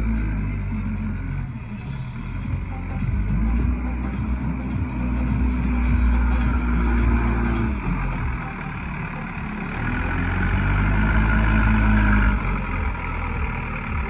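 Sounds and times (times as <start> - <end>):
diesel engine working under load: 0.0 - 14.0.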